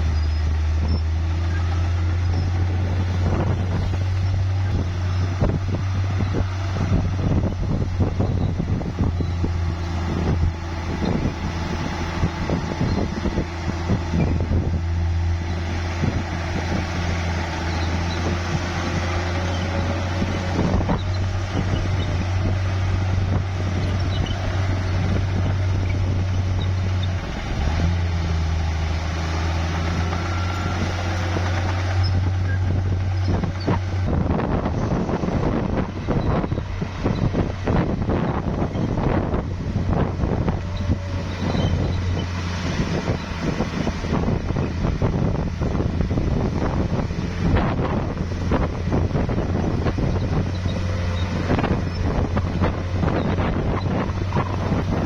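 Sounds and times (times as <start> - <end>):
bulldozer engine droning: 0.0 - 55.0
wind buffeting microphone: 0.0 - 55.0.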